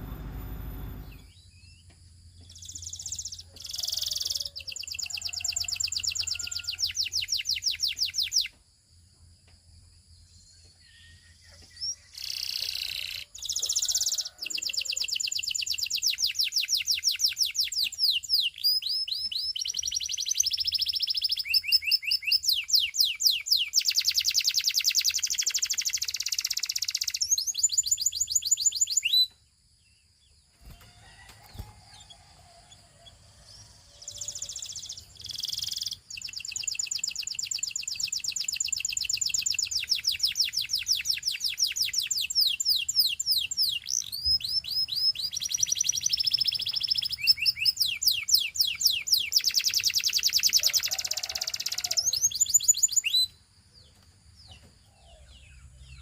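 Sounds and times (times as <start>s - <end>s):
canary singing trills: 0.0s - 8.6s, 10.4s - 29.4s, 30.6s - 56.0s.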